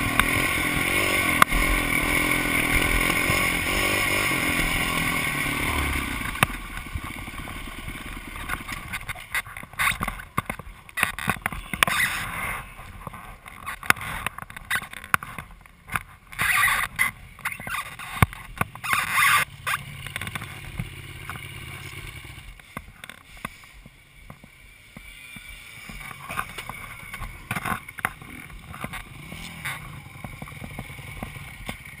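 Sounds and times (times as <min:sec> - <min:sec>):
dirt bike engine idling: 0:00.0 - 0:15.1, 0:16.8 - 0:32.0.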